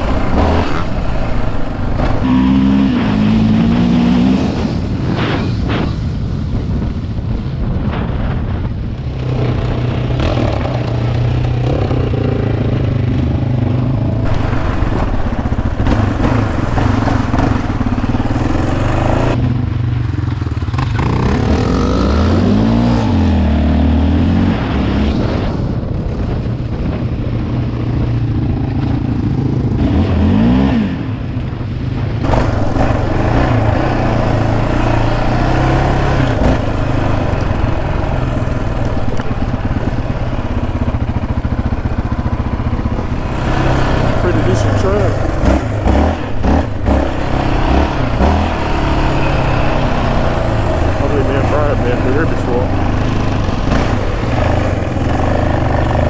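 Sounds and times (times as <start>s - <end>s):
atv engine revving: 0.0s - 5.9s, 9.0s - 25.5s, 27.7s - 31.2s, 32.2s - 56.0s.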